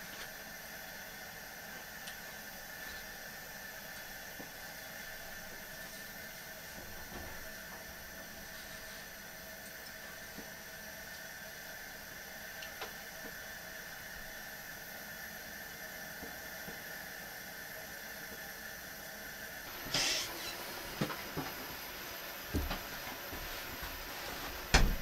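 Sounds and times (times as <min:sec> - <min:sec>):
camp stove burner hiss: 0:00.0 - 0:25.0.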